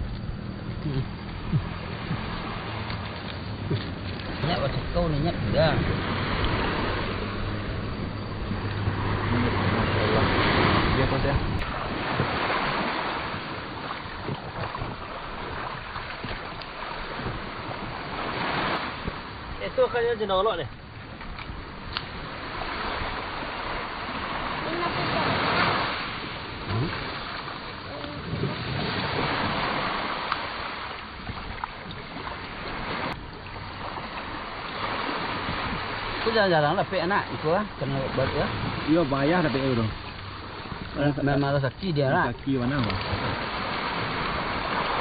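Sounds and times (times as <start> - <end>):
sea surf washing on shore: 0.0 - 45.0
wind on microphone: 0.0 - 45.0.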